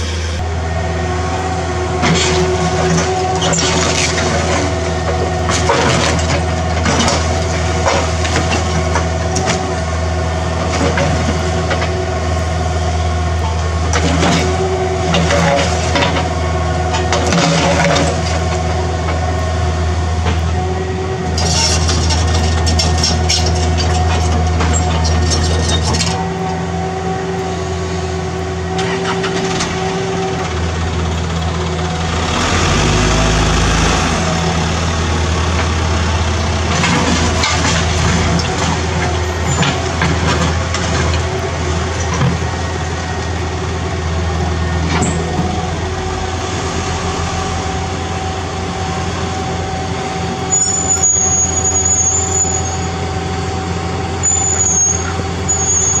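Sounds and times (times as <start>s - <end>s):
diesel engines running: 0.0s - 56.0s
dump truck engine revving: 0.0s - 56.0s.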